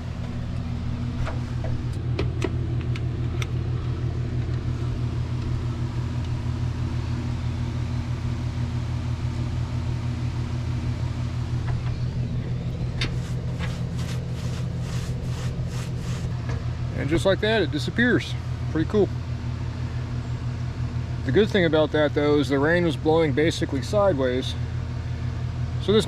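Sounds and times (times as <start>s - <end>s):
constant hum: 0.0s - 26.0s
vehicle engine idling: 0.0s - 26.0s.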